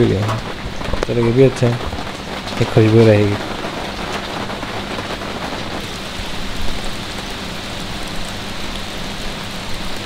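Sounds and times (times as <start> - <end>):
gentle rain falling: 0.0 - 10.0.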